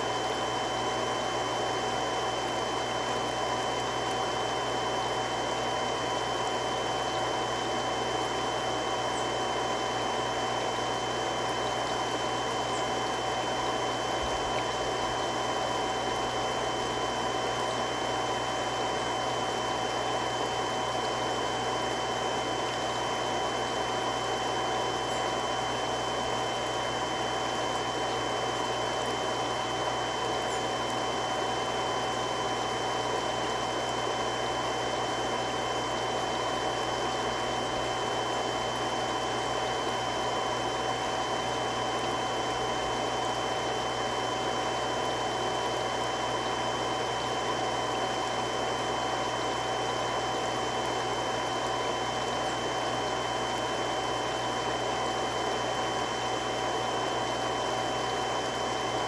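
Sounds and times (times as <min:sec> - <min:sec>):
pump whining tones: 0:00.0 - 0:59.0
water pump rushing noise: 0:00.0 - 0:59.0.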